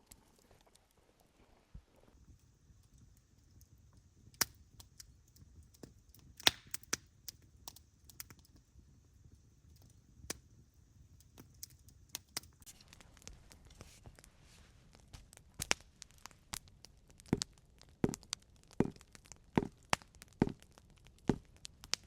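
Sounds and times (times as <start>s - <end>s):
campfire crackling: 2.1s - 22.0s.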